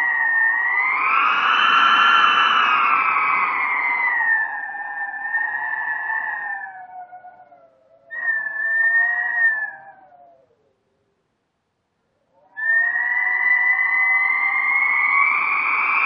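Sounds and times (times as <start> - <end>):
howling wind: 0.0 - 10.9, 12.2 - 16.0.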